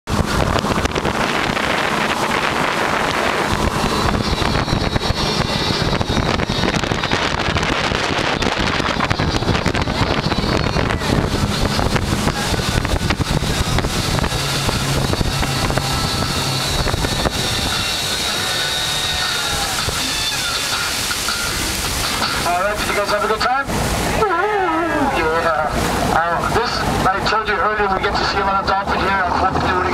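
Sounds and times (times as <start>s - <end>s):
wind buffeting microphone: 0.1s - 27.1s
boat engine drone: 0.1s - 29.9s.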